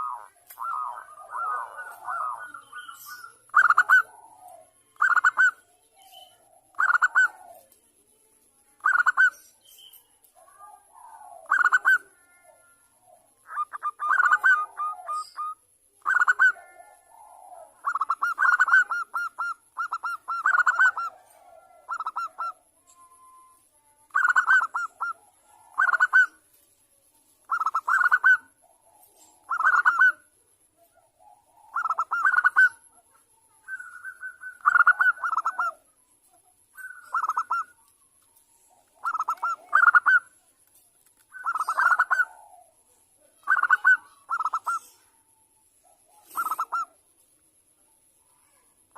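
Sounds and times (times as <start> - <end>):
dove cooing: 0.0 - 7.8, 10.4 - 23.5, 24.1 - 26.4, 27.4 - 35.9, 36.8 - 37.9, 38.5 - 40.4, 41.3 - 45.2, 45.8 - 47.0.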